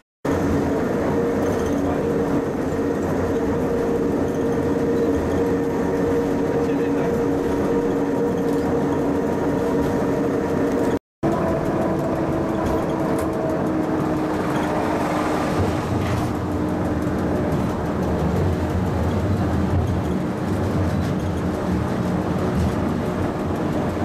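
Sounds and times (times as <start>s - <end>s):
railcar rumble: 0.3s - 24.0s.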